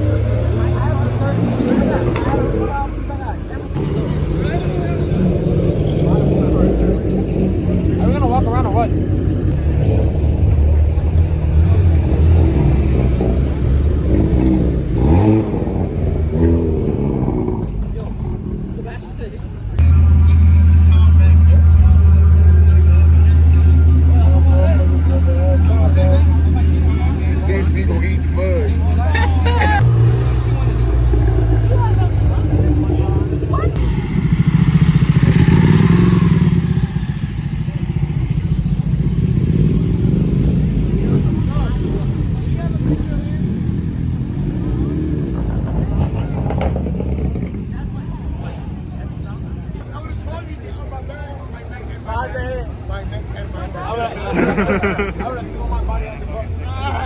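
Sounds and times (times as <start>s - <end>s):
car engines rumbling: 0.0s - 57.0s.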